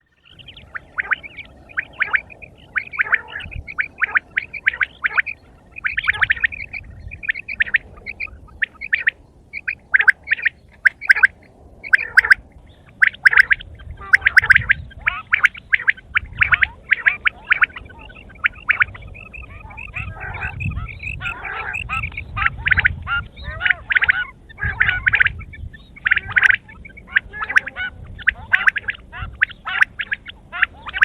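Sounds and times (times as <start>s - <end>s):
quail chirping: 0.0s - 31.0s.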